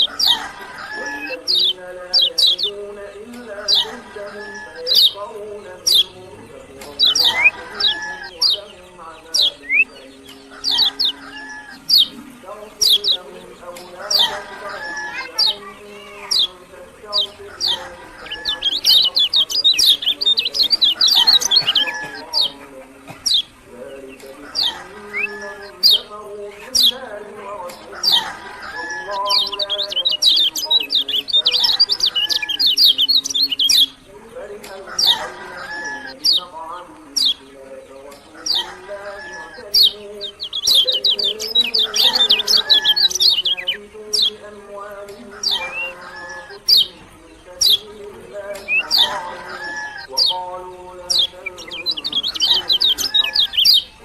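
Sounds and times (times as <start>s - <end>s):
bird high sharp chirping: 0.0s - 54.0s.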